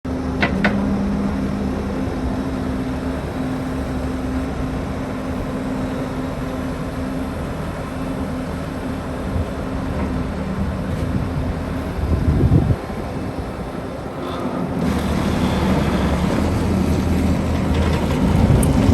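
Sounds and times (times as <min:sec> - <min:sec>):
diesel engine running: 0:00.1 - 0:18.9.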